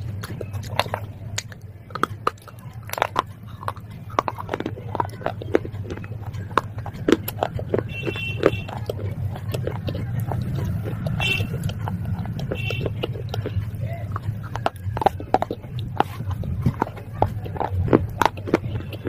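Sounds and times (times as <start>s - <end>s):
crunching of clay being chewed: 0.0s - 19.0s.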